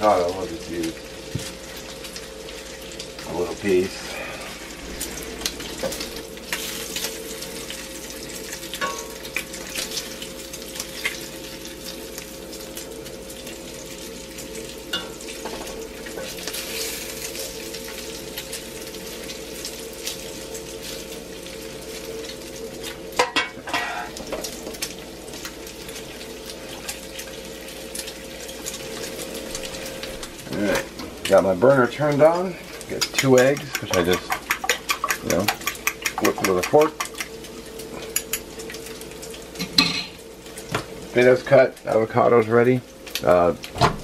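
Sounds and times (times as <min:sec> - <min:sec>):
bacon sizzling in a pan: 0:00.0 - 0:44.0
steady hum: 0:00.0 - 0:44.0.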